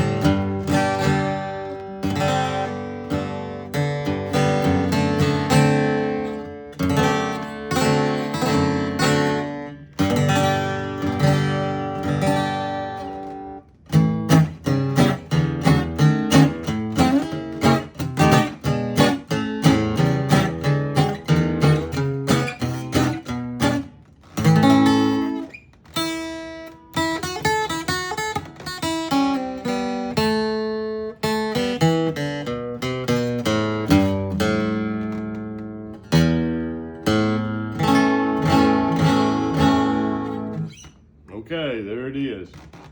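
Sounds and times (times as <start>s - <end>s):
acoustic guitar strumming: 0.0s - 42.9s.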